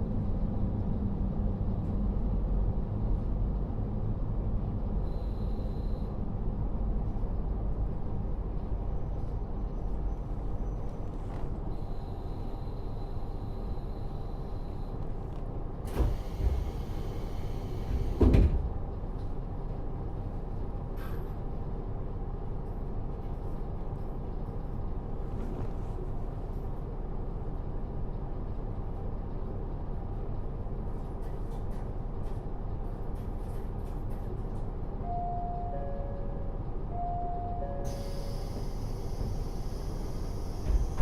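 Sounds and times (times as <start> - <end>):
diesel railcar engine running: 0.0 - 41.0.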